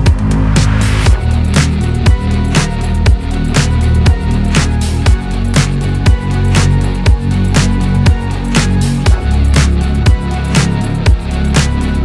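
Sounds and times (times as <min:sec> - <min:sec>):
electronic beat music: 0:00.0 - 0:12.0.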